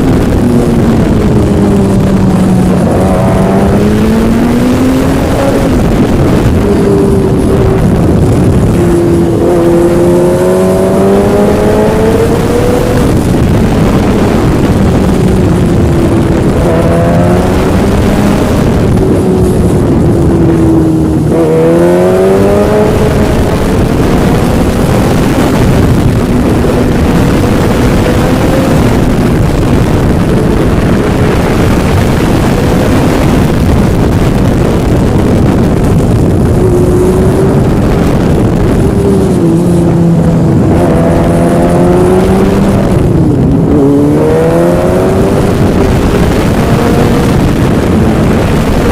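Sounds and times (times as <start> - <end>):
engine revving: 0.0 - 48.9
steady rushing noise: 0.0 - 48.9.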